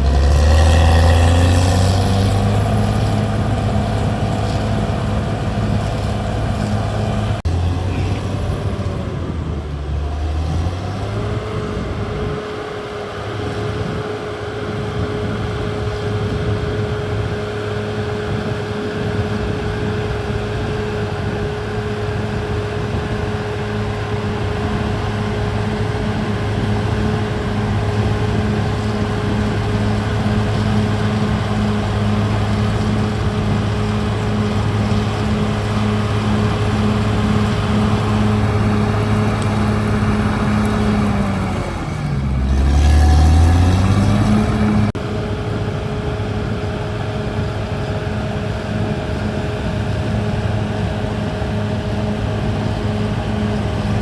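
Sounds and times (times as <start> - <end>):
bulldozer diesel engine humming: 0.0 - 54.0.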